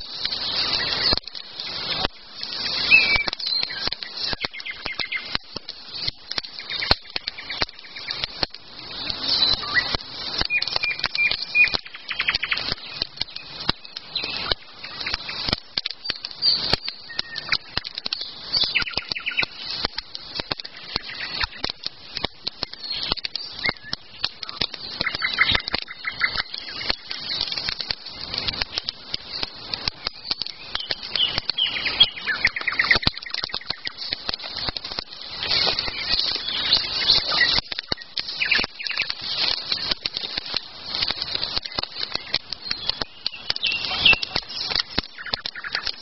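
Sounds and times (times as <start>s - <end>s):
crackling clicks and rustles: 0.0s - 46.0s
small birds chirping: 0.0s - 46.0s.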